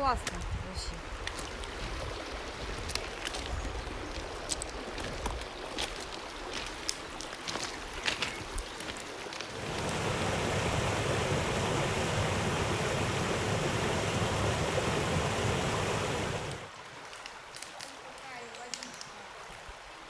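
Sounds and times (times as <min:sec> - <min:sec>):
rushing mountain stream: 0:00.0 - 0:20.0.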